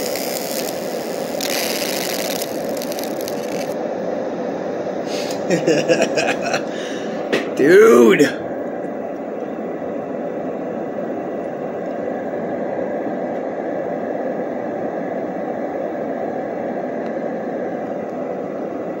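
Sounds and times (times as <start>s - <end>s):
fan whooshing: 0.0s - 19.0s.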